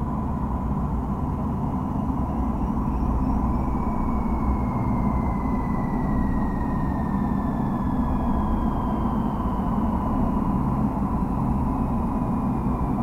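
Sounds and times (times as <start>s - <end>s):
faint whine falling in pitch: 1.6s - 13.0s.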